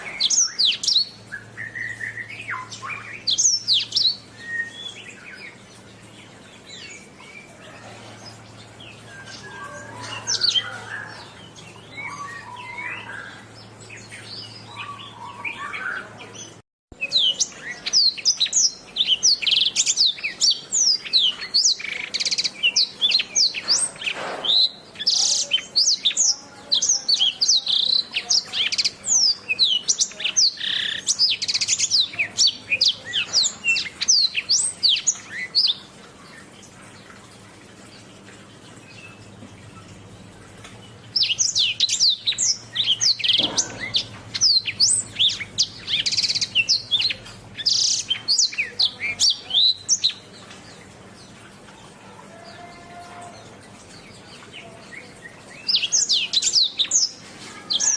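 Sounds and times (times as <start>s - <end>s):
canary singing: 0.0s - 37.1s, 37.9s - 57.9s.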